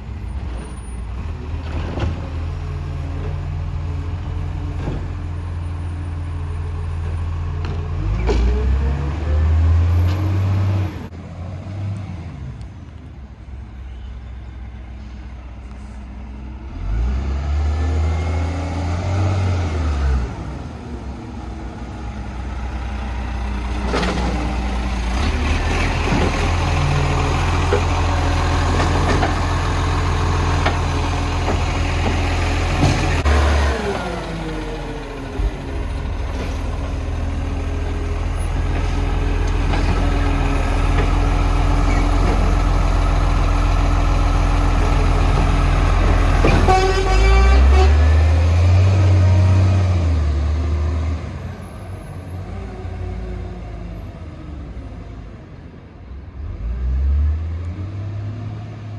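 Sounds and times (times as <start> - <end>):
diesel engine revving: 0.0 - 12.2, 16.6 - 55.6, 56.2 - 58.9.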